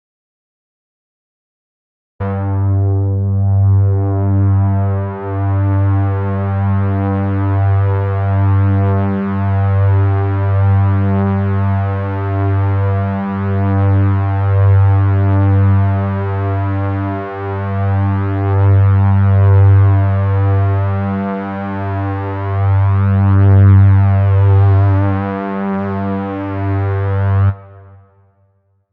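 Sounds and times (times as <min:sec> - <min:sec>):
gated synthesized drone: 0:02.2 - 0:27.9.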